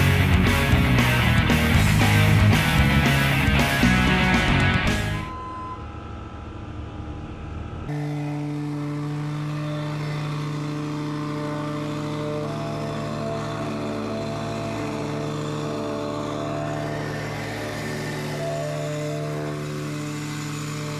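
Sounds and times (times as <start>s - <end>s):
plate compactor engine running: 0.0s - 20.9s.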